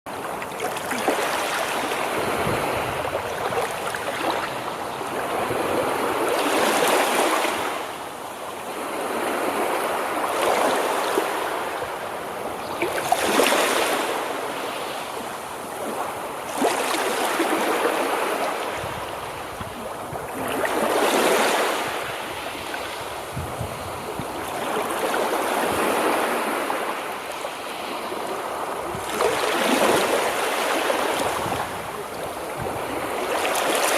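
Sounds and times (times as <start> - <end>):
waves breaking on shore: 0.1 - 33.9.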